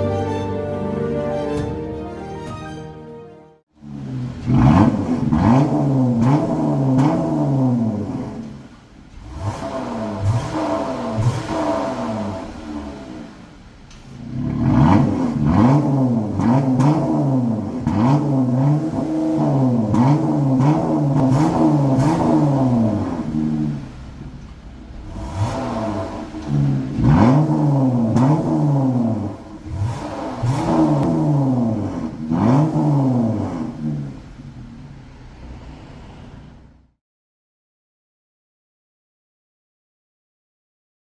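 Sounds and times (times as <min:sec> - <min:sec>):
car engine revving: 0:03.7 - 0:36.9.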